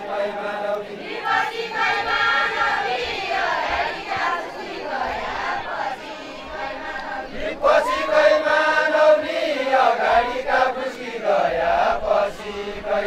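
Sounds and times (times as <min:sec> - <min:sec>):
group of men singing: 0:00.0 - 0:13.0.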